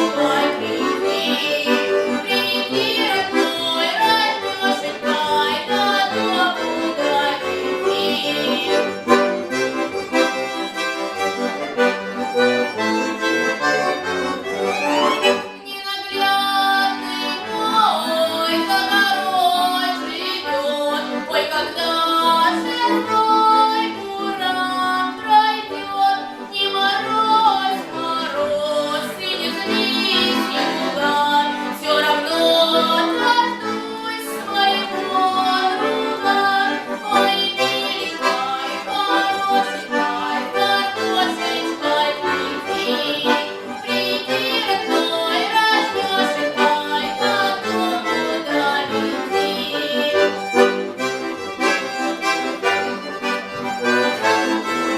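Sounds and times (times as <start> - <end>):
accordion folk melody: 0.0 - 54.9.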